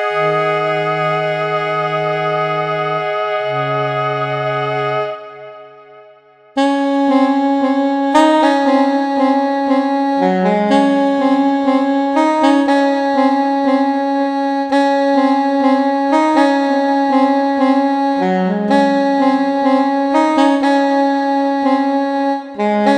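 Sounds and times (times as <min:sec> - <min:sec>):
saxophone-like keyboard notes: 0:00.0 - 0:22.9.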